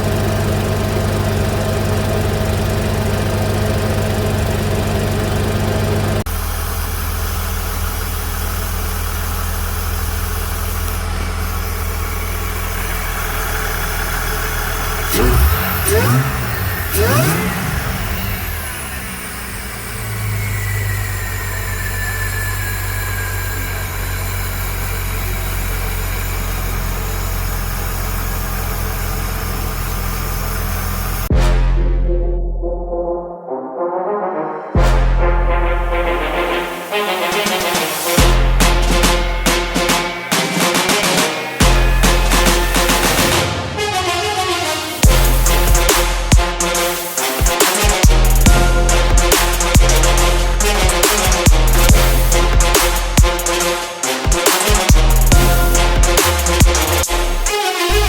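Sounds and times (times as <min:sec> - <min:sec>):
car engine idling and revving: 0:00.0 - 0:31.4, 0:35.2 - 0:43.8, 0:45.0 - 0:58.0.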